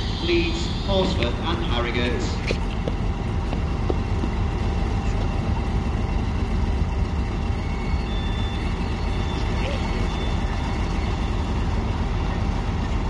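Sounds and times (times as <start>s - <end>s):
diesel locomotive engine rumbling: 0.0s - 13.0s
faint steady whine: 0.0s - 13.0s.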